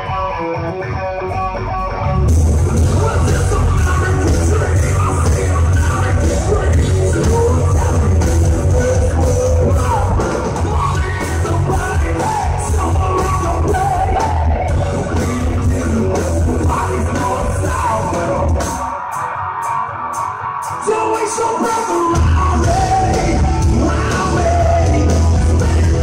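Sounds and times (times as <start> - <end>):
live rock band: 0.0 - 26.0.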